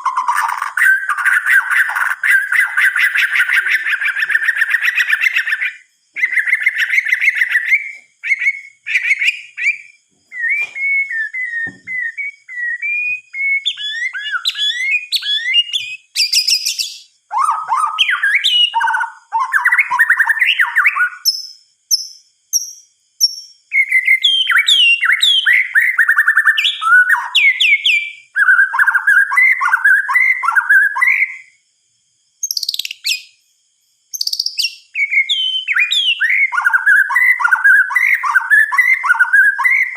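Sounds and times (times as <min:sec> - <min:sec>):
bird singing whistled phrases: 0:00.0 - 0:31.6, 0:32.4 - 0:33.4, 0:34.1 - 0:39.9.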